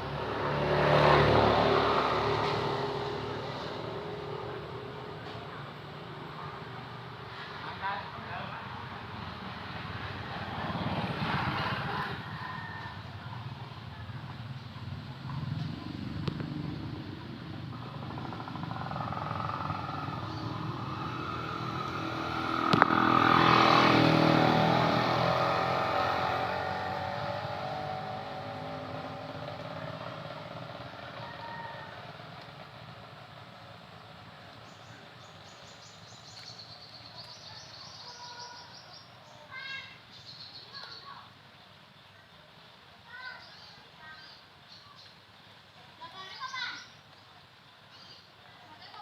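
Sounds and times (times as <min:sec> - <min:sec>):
motor vehicle passing by: 0:00.0 - 0:41.2.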